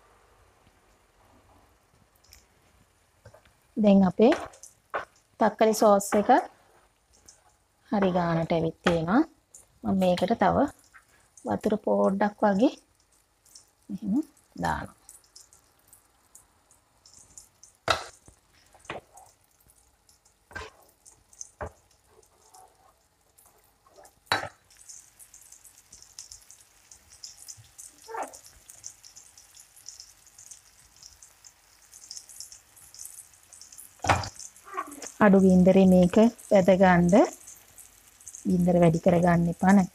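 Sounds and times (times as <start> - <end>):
meatballs sizzling in oil: 0.0 - 39.9.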